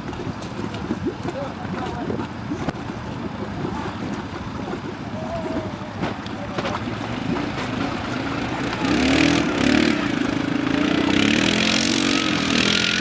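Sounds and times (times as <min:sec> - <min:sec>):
atv engine revving: 0:02.3 - 0:13.0.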